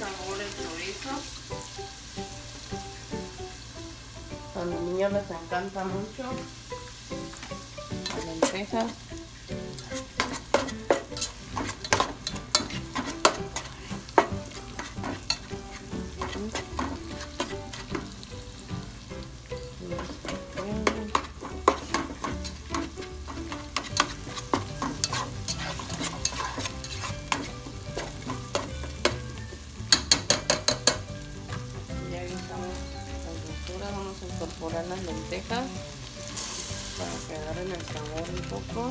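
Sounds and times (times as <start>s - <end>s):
food sizzling in a pot: 0.0s - 38.9s.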